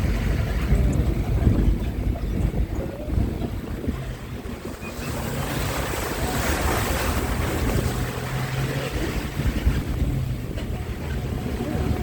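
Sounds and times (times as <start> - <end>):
bus engine droning: 0.0 - 12.0
wind rushing over microphone: 0.0 - 12.0.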